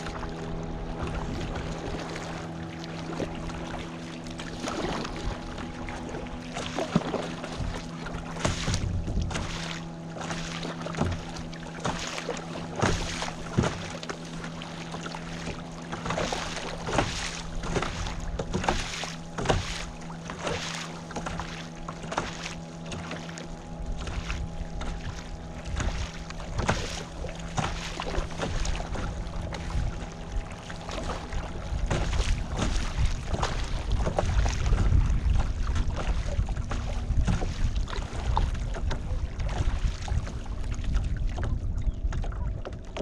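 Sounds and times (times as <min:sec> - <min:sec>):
paddle splashing in water: 0:00.0 - 0:43.0
steady low hum: 0:00.0 - 0:43.0.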